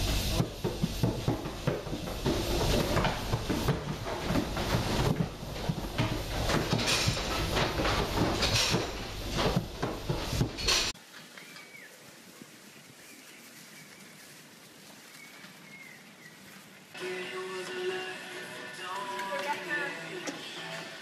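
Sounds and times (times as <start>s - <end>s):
goat hooves clattering: 0.0s - 17.8s.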